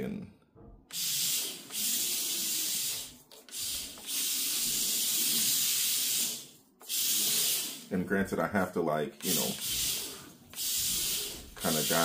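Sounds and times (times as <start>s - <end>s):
toy car tyres hissing sideways: 0.9s - 7.9s, 9.2s - 12.0s.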